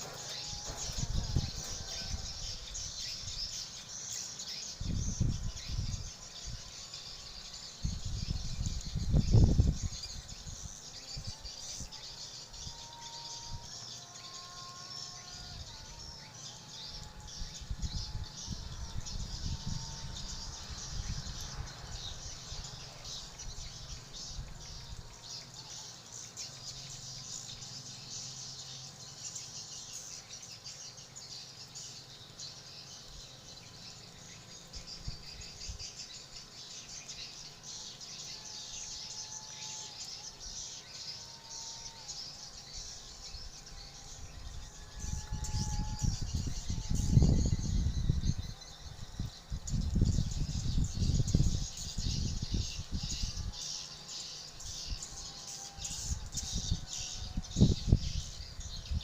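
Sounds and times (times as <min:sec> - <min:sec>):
flock of birds twittering: 0:00.0 - 0:59.0.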